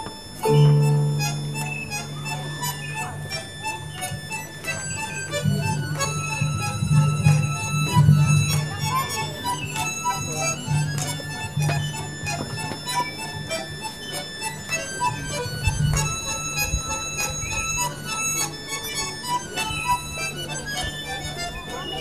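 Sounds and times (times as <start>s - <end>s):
accordion orchestra playing folk music: 0.0s - 22.0s.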